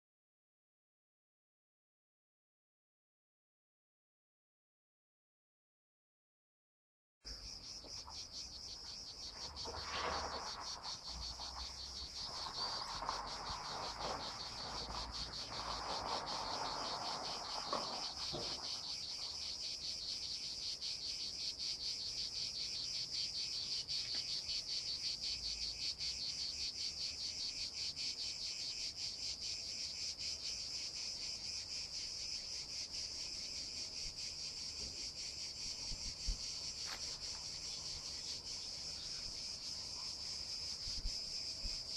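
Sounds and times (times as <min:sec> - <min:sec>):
insects shrilling: 0:08.2 - 0:41.9.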